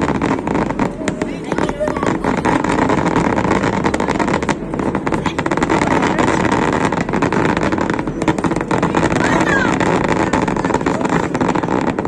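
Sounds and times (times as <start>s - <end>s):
fireworks crackling: 0.0s - 12.0s
steady rumble: 0.0s - 12.0s.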